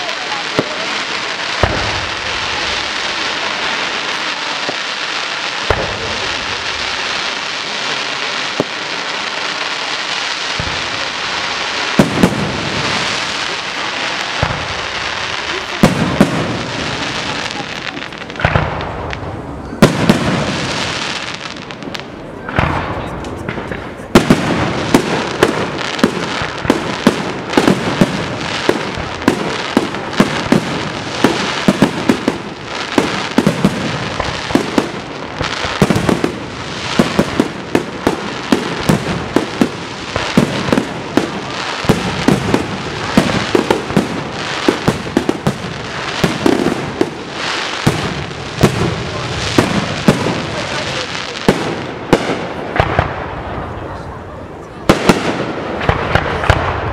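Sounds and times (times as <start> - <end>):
firework crackle: 0.0 - 56.9.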